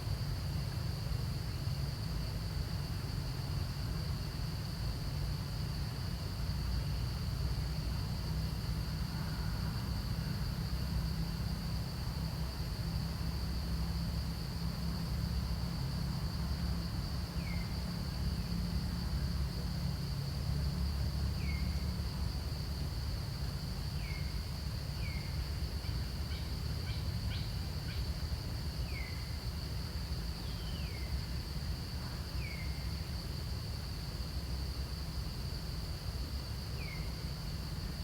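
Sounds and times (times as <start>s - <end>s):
high insect drone: 0.2s - 38.0s.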